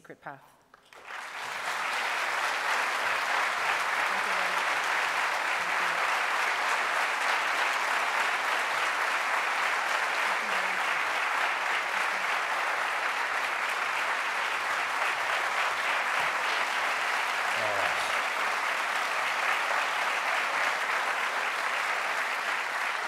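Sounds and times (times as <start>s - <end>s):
audience applauding: 0.8s - 23.0s.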